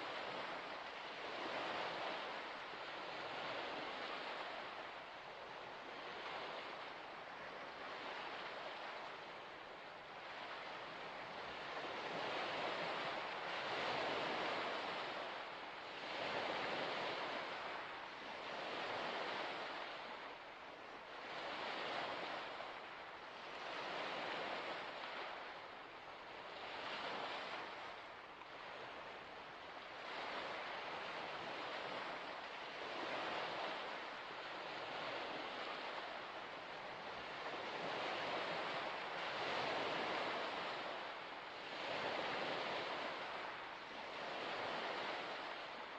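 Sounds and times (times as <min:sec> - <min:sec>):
small waves washing onto shore: 0:00.0 - 0:45.9.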